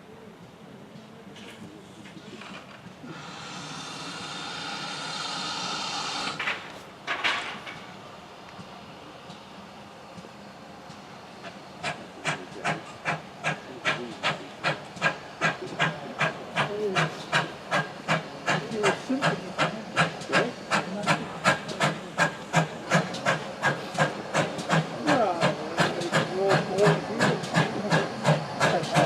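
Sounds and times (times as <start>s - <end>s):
steam locomotive chuffing: 1.7s - 8.0s, 8.6s - 29.0s.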